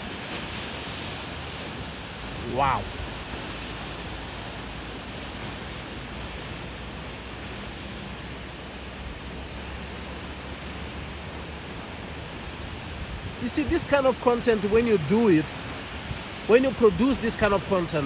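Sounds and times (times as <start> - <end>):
wind rumbling on microphone: 0.0 - 17.9
waterfall rushing: 0.0 - 18.0.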